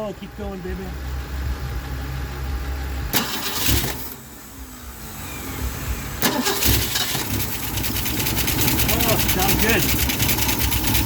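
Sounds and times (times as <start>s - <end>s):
car engine starting and running unevenly: 0.0s - 11.0s.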